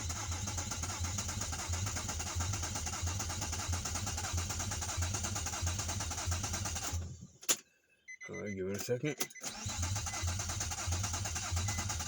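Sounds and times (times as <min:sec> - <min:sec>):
car engine cranking: 0:00.0 - 0:07.2, 0:09.3 - 0:12.0.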